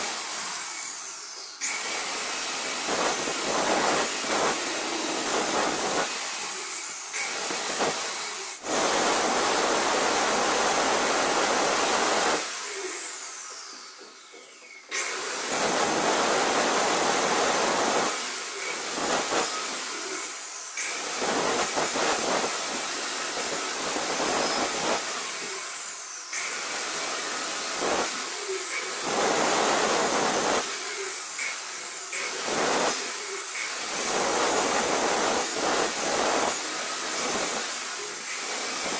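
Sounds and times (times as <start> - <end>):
angle grinder cutting stone: 0.0 - 38.9.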